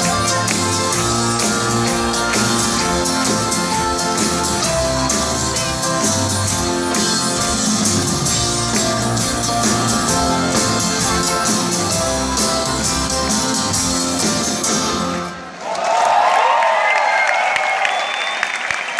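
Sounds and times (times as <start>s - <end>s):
drums and cymbals beat: 0.0s - 15.3s
rock band playing instrumental: 0.0s - 15.6s.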